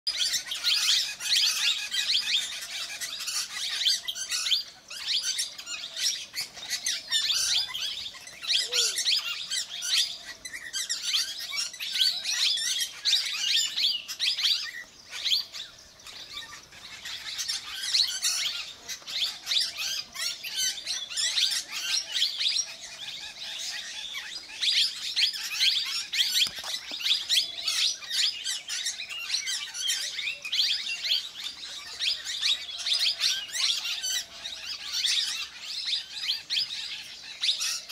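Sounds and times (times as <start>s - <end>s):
parakeets shrill chirping: 0.1s - 37.9s.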